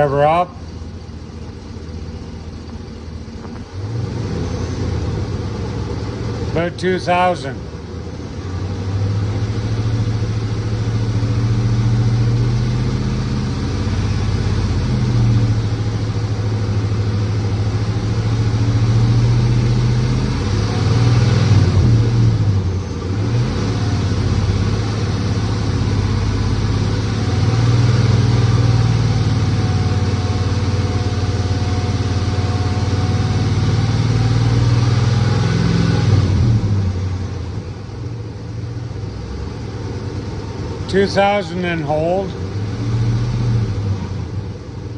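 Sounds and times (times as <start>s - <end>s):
engine at fast idle: 0.0s - 44.9s.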